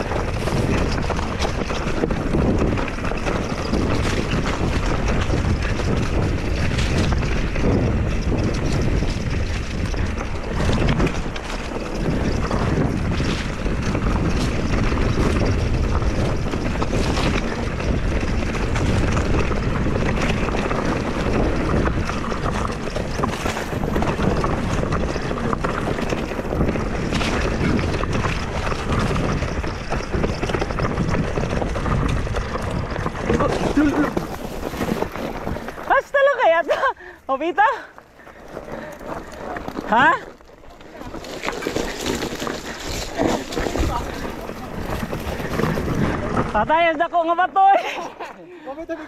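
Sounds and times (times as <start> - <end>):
bike knocking and rattling: 0.0 - 49.0
tyres rolling over dirt and stones: 0.0 - 49.0
wind buffeting microphone: 0.0 - 49.0.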